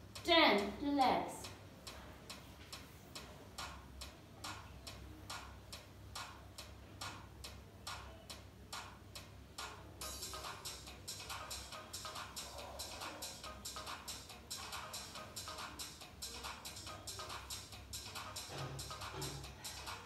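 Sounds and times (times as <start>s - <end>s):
faint ticking beat: 0.0s - 20.0s.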